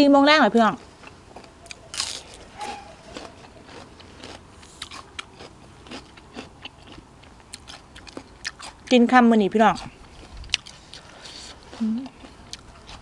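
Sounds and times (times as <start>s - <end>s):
crunchy chewing: 0.7s - 9.0s, 9.7s - 13.0s.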